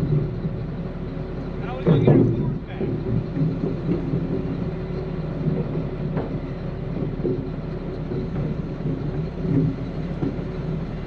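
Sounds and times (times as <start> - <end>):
heavy engine rumbling: 0.0 - 11.0.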